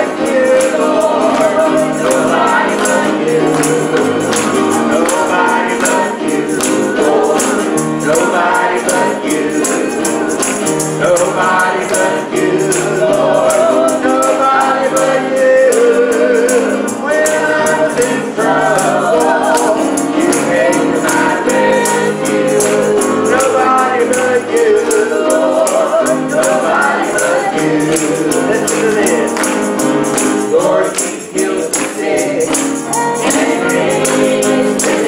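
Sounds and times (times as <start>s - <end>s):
piano accompaniment: 0.0s - 35.0s
voices singing with vibrato: 0.0s - 35.0s.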